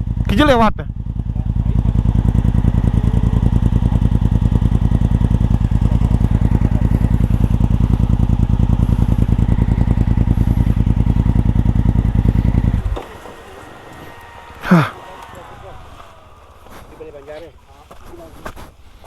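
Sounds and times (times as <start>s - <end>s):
motorcycle engine chugging: 0.0s - 19.0s.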